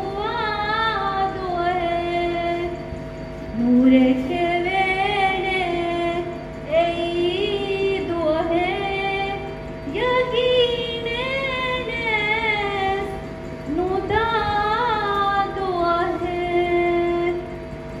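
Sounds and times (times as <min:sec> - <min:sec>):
woman singing unaccompanied: 0:00.0 - 0:02.9, 0:03.5 - 0:17.6.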